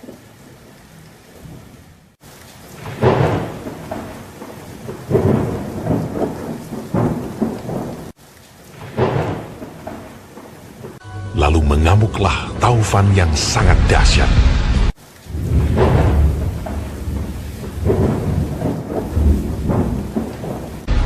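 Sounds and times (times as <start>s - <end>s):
steady rain: 0.0s - 21.0s
heavy thunder rumbles: 2.8s - 21.0s.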